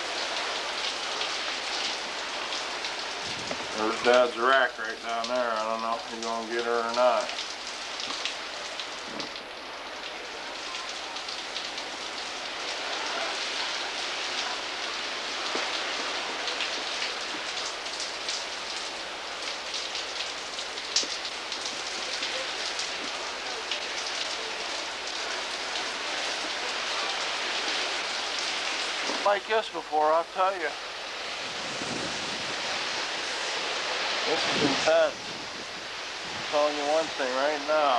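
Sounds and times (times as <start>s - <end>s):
raindrops ticking: 0.0s - 37.9s
wind and rain rushing hiss: 0.0s - 37.9s.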